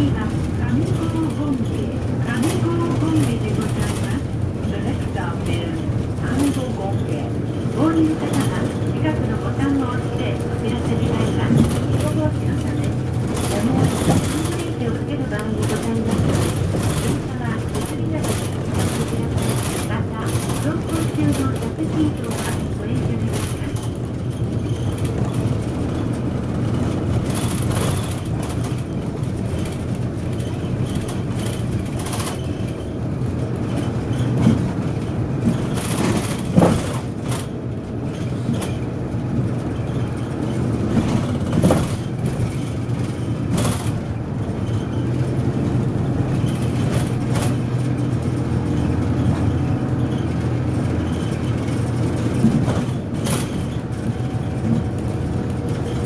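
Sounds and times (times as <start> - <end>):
bus engine and road noise: 0.0 - 56.0
knocks and rattles in cabin: 0.0 - 56.0.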